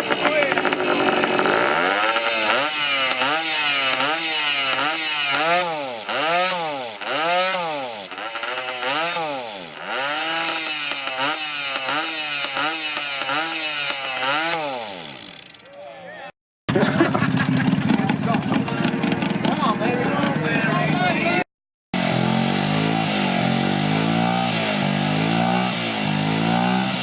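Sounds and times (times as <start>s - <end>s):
motorcycle engine revving: 0.0s - 15.8s, 16.7s - 21.4s, 22.0s - 27.0s.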